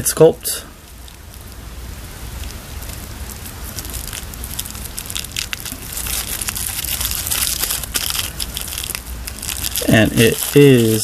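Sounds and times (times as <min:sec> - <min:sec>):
packaging crinkling: 0:00.8 - 0:11.0.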